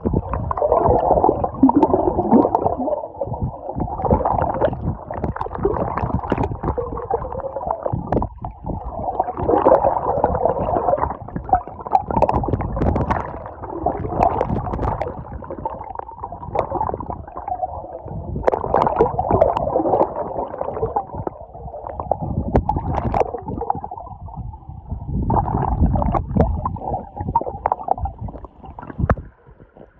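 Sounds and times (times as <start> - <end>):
muffled gurgling water: 0.0 - 29.9.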